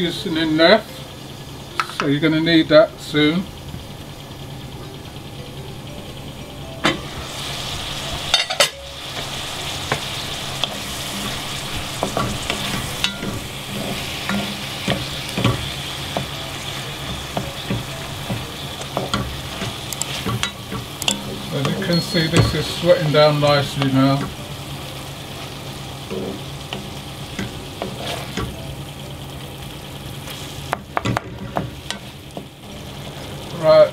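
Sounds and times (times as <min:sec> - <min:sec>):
vegetables sizzling in a pan: 0:00.0 - 0:33.9.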